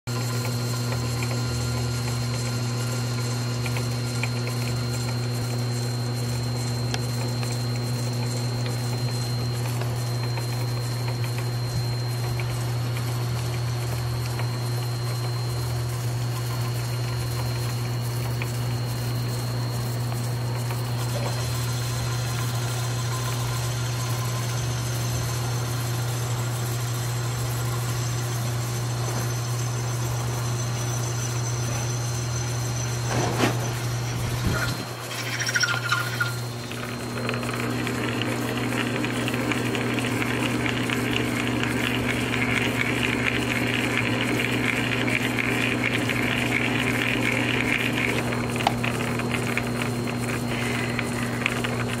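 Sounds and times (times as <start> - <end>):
metal lathe humming: 0.1 - 52.0.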